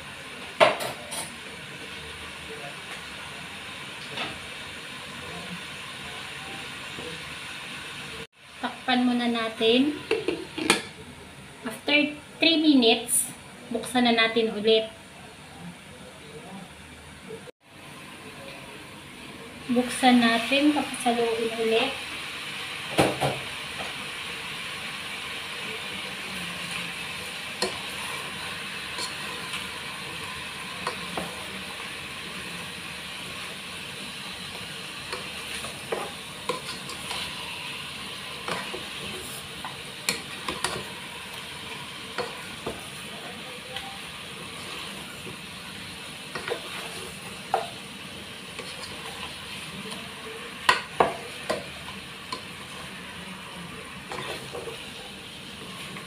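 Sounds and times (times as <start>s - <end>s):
meat sizzling in a pot: 0.0s - 14.9s, 17.6s - 56.0s.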